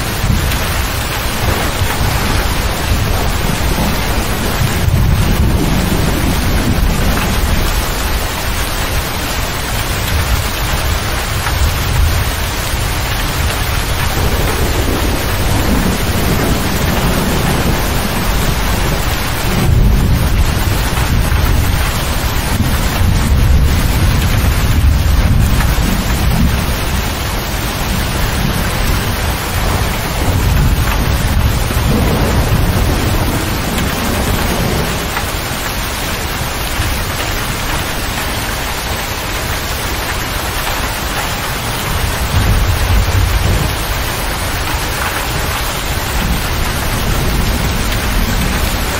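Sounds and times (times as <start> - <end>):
heavy rain drumming on cab roof: 0.0 - 48.9
rolling thunder: 0.0 - 48.9.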